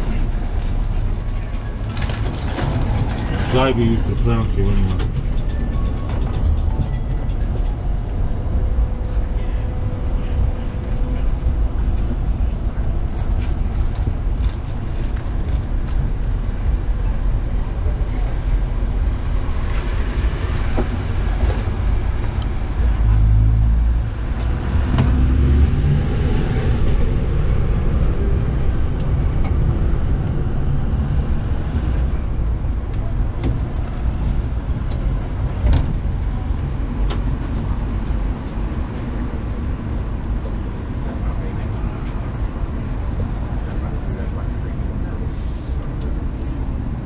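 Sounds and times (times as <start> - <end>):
tram wheels rumbling: 0.0 - 47.0.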